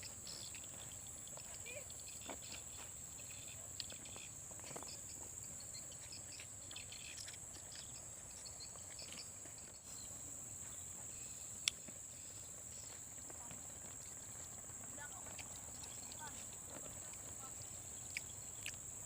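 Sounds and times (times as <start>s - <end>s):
faint ticks and rustles: 0.0s - 19.0s
insects droning: 0.0s - 19.0s.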